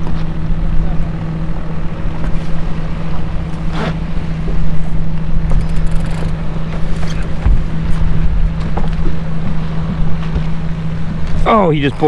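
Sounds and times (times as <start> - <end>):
boat engine humming: 0.0 - 12.0
wind buffeting microphone: 0.0 - 12.0.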